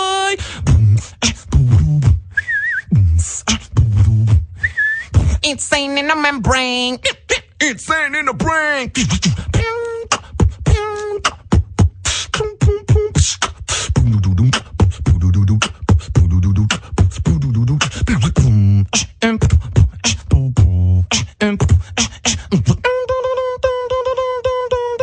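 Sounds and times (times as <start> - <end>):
deep humming bass notes: 0.0 - 5.4, 9.0 - 25.0
beatboxing drum beat: 0.0 - 5.9, 8.4 - 25.0
short sung vocal tones: 0.0 - 25.0.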